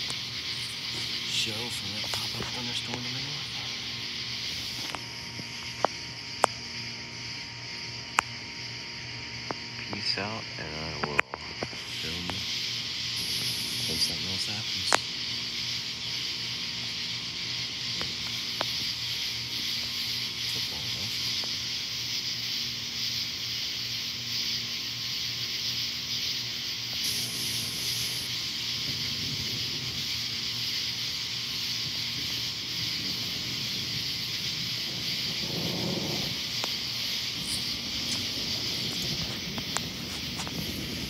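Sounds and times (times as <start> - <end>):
high-pitched hiss of night air: 0.0 - 41.0.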